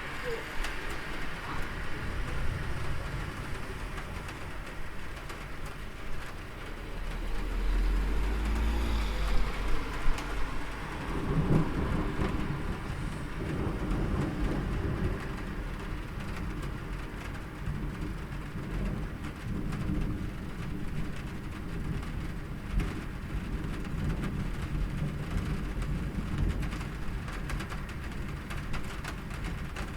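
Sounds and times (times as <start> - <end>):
rain falling: 0.0 - 29.9
thunder rumbling: 0.0 - 29.9.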